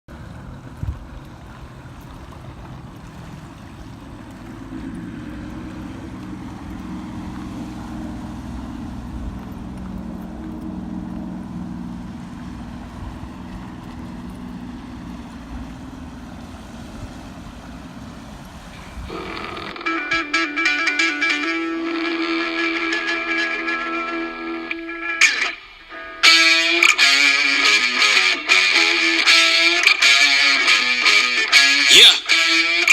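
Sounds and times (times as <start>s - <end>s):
boat motor humming: 0.1s - 32.9s.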